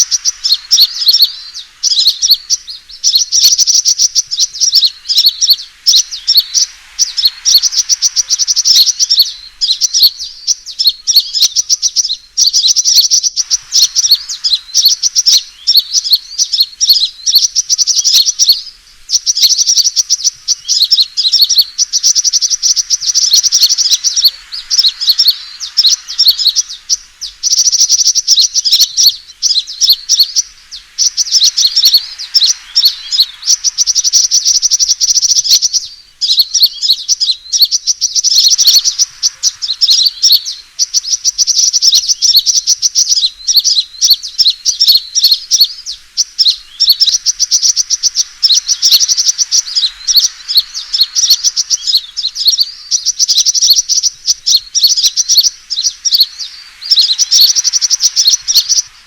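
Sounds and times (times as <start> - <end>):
bird twittering trill: 0.0 - 59.0.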